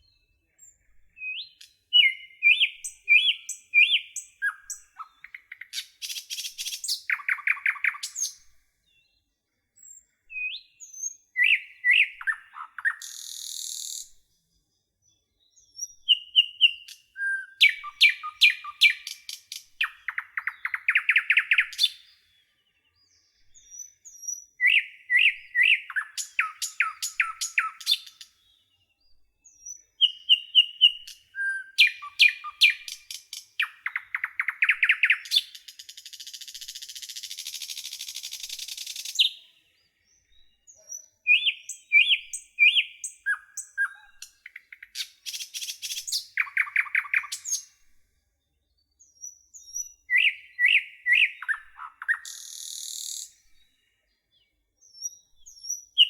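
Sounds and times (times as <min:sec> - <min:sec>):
songbird whistling and trilling: 0:00.0 - 0:09.1, 0:09.8 - 0:14.2, 0:15.0 - 0:22.3, 0:23.0 - 0:47.8, 0:49.0 - 0:56.0.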